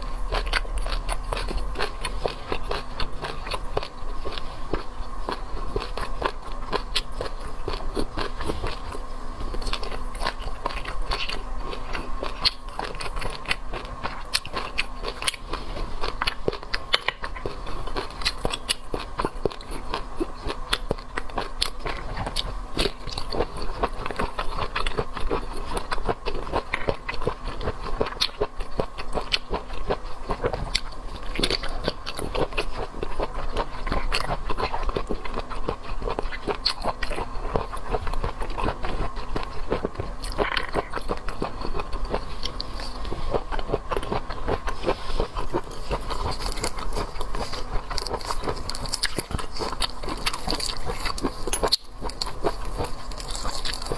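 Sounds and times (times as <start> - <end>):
chewing and biting seafood: 0.0 - 53.9.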